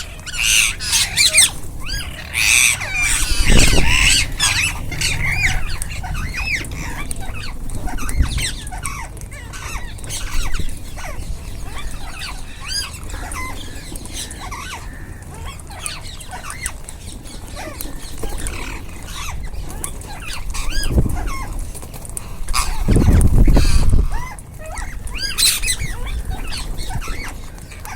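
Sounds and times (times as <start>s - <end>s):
parakeets chirping and squawking: 0.0s - 27.9s.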